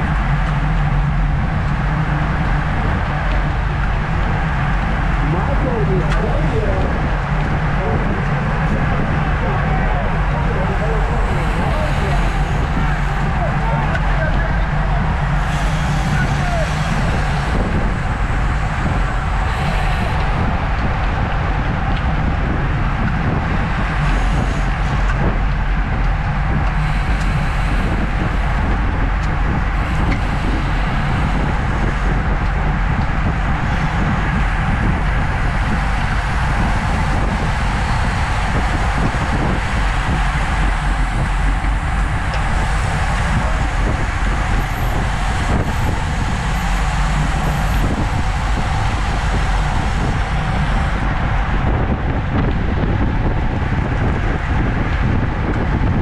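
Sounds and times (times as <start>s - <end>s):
bicycle road and tyre noise: 0.0s - 56.0s
wind buffeting microphone: 0.0s - 56.0s.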